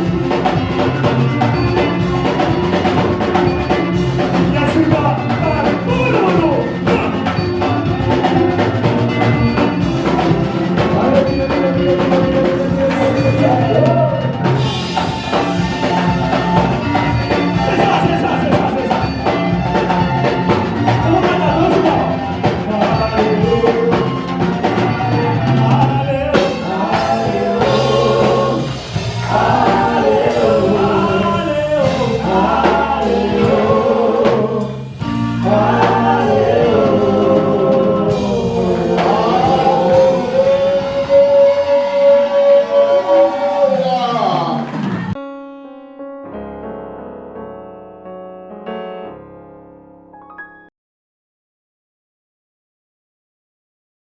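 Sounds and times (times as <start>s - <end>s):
group singing gospel: 0.0s - 45.2s
backing band: 0.0s - 45.5s.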